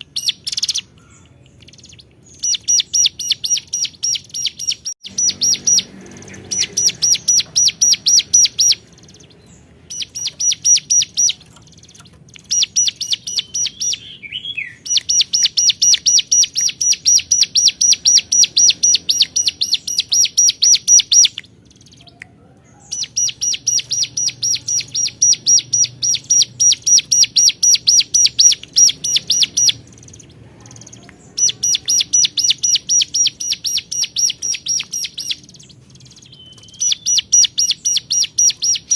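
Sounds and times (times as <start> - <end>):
bird singing rapid high notes: 0.0 - 22.2, 22.8 - 38.9.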